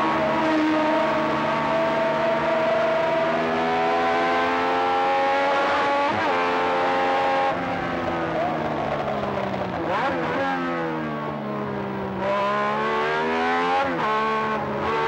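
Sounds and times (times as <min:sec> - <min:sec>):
racing car engine at full throttle: 0:00.0 - 0:15.0.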